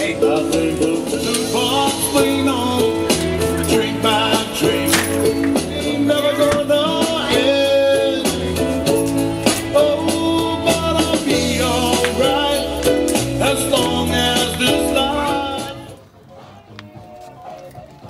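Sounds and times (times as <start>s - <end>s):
song with singing and guitar: 0.0s - 16.0s.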